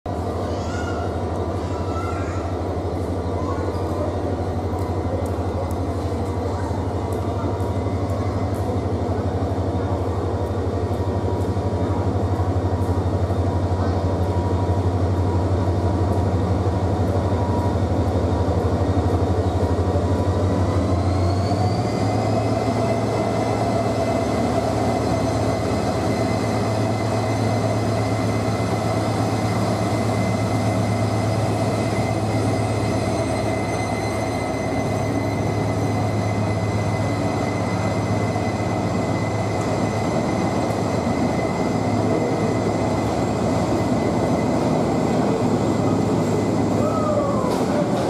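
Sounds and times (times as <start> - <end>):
diesel locomotive passing: 0.1 - 48.0
passenger coaches rolling by: 0.1 - 48.0.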